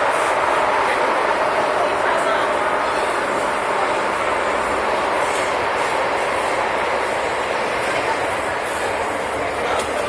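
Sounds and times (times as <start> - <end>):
train wheel and track noise: 0.0 - 10.0.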